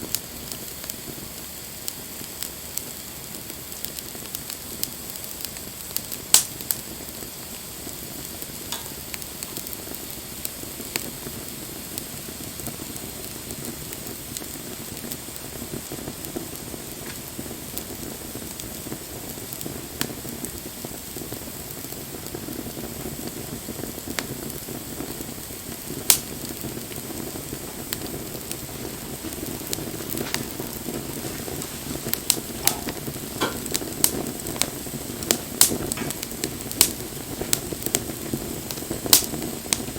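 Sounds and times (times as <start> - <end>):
burning wood popping: 0.0 - 39.9
flames hissing and rustling: 0.0 - 39.9.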